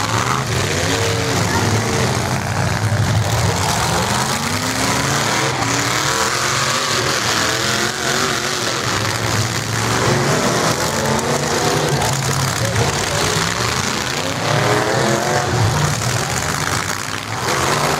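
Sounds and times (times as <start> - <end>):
truck engines revving: 0.0 - 17.9.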